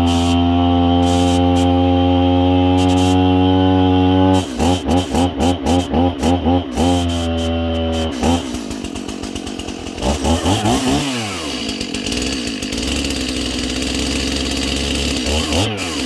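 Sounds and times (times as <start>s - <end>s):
chainsaw cutting through wood: 0.0s - 16.0s
chainsaw running: 0.0s - 16.0s.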